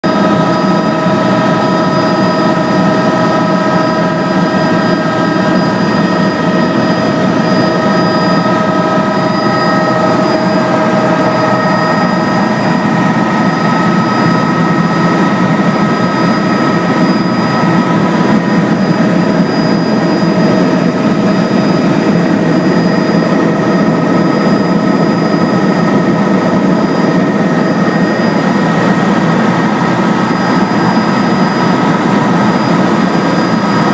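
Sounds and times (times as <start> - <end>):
helicopter engine and rotor rumble: 0.0 - 33.9
high-pitched whines: 0.0 - 33.9.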